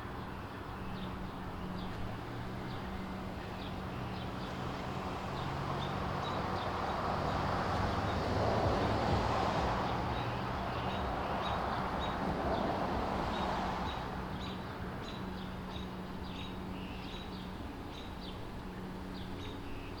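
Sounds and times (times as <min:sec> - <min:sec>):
rushing background noise: 0:00.0 - 0:20.0
small birds chirping: 0:00.1 - 0:08.8, 0:09.6 - 0:20.0.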